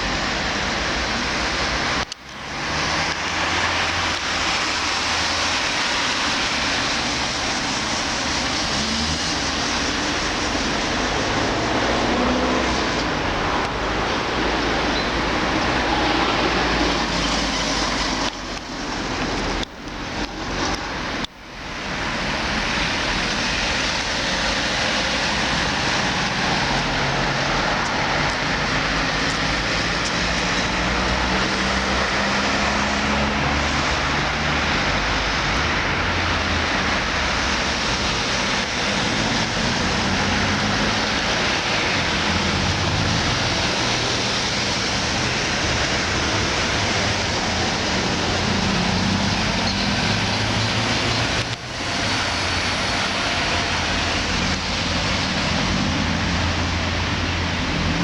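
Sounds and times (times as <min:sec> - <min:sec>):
car engines running: 0:00.0 - 0:58.0
tyre and road noise: 0:00.0 - 0:58.0.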